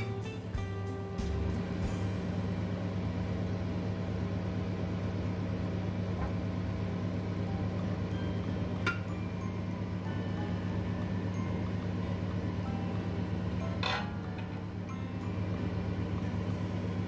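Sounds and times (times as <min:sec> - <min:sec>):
steady low hum: 0:00.0 - 0:17.0
soup boiling in a pot: 0:01.2 - 0:17.0.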